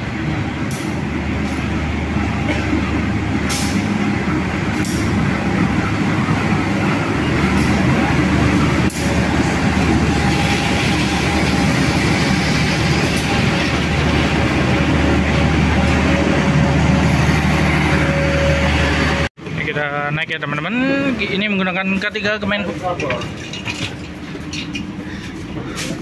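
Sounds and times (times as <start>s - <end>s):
train coaches rolling by: 0.0s - 26.0s.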